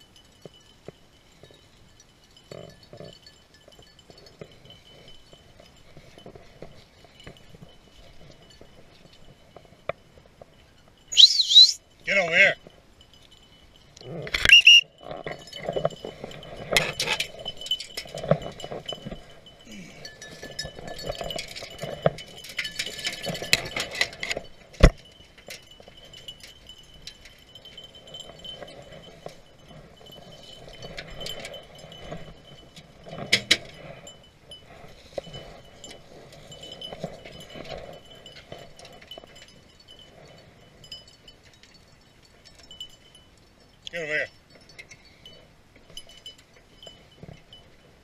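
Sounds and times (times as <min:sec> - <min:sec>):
metallic jingling and clinking: 0:00.0 - 0:48.0.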